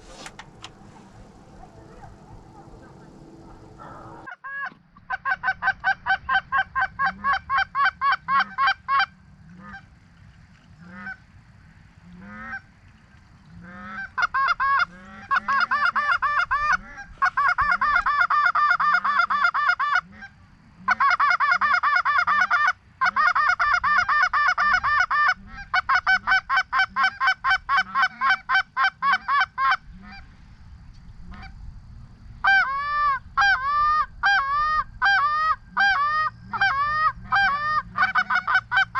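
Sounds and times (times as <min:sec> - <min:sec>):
lower goose call: 0:00.0 - 0:09.8, 0:13.6 - 0:30.2, 0:32.4 - 0:38.9
goose honks and clucks: 0:00.0 - 0:09.9, 0:10.8 - 0:11.2, 0:12.0 - 0:12.7, 0:13.6 - 0:30.3, 0:31.2 - 0:31.6, 0:32.4 - 0:38.9.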